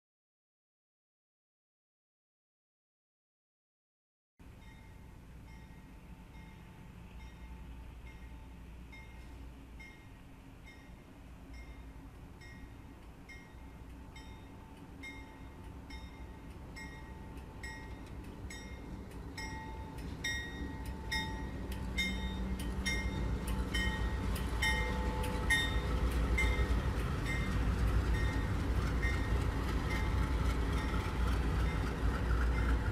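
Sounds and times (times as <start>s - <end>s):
diesel locomotives rumbling past: 4.4s - 32.9s
crossing bell ringing: 4.6s - 32.9s.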